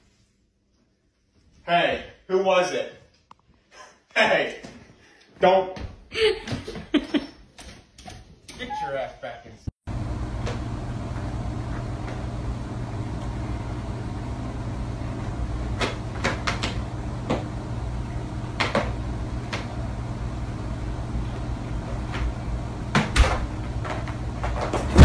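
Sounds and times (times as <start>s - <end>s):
room hum: 0.0s - 25.0s.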